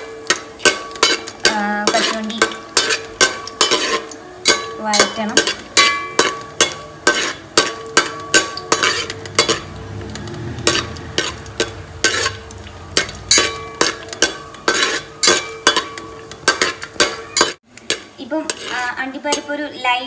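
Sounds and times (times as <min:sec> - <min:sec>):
metal spoon scraping a pot: 0:00.0 - 0:19.8
light sizzle: 0:00.0 - 0:20.0.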